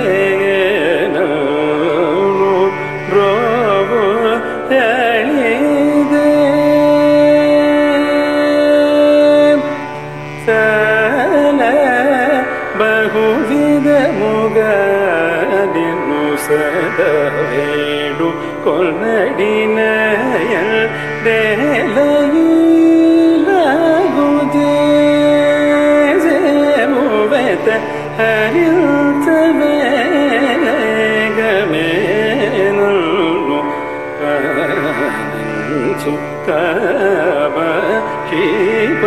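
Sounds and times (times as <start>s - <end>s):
man singing ornamented phrases: 0.0s - 39.0s.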